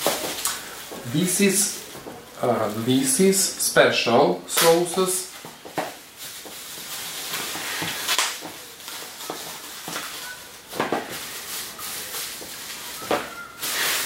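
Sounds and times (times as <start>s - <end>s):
plastic packaging crinkling: 0.0s - 3.6s, 4.5s - 14.0s.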